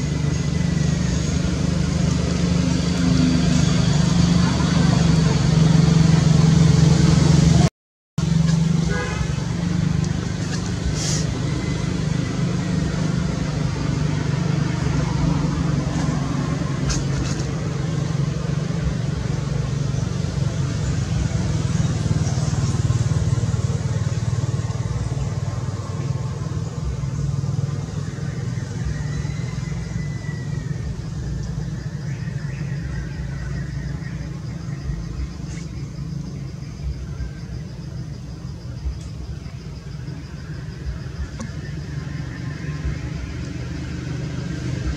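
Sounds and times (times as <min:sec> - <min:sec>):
engine idling hum: 0:00.0 - 0:44.9.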